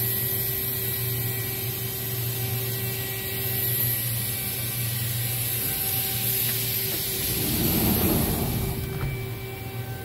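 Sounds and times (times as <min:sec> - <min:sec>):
constant high hiss: 0:00.0 - 0:10.0
machining center mechanical hum: 0:00.0 - 0:10.0.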